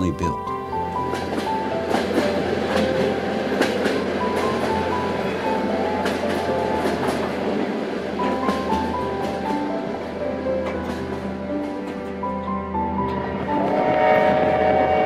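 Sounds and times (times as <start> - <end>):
background music with melody: 0.0 - 15.0
train running on track: 0.0 - 15.0.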